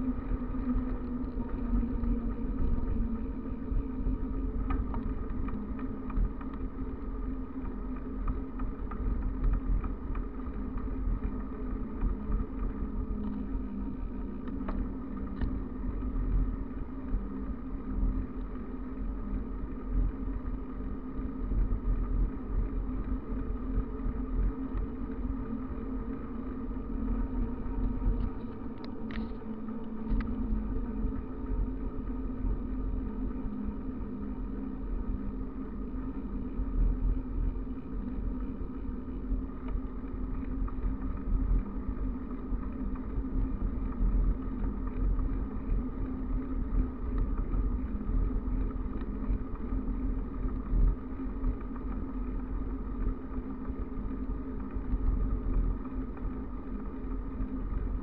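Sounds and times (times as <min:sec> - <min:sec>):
bicycle tyres humming on asphalt: 0:00.0 - 0:58.0
wind rumble on microphone: 0:00.0 - 0:58.0.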